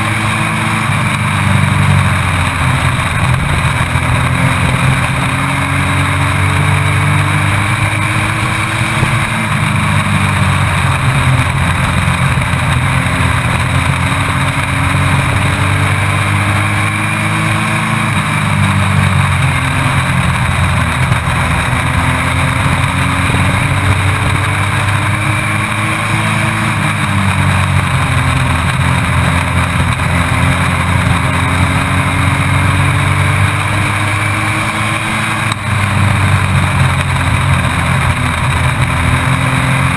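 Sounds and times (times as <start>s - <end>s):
truck engine at racing speed: 0.0s - 39.9s
wind and road noise: 0.0s - 39.9s.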